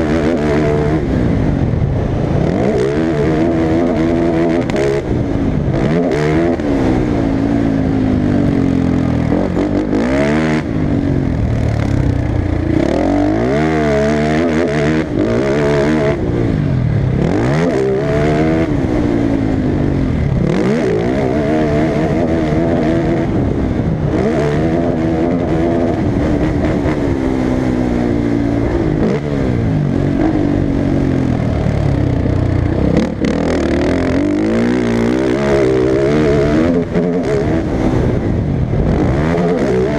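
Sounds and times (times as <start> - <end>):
racing engine revving: 0.0 - 7.9, 8.5 - 39.9.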